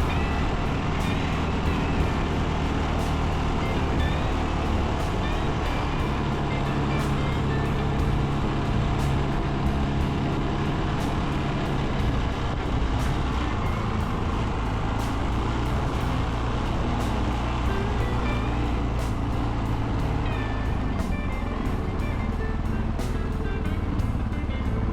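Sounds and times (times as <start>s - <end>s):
background music with steady beat: 0.0s - 24.9s
motorcycle engine running: 0.0s - 24.9s.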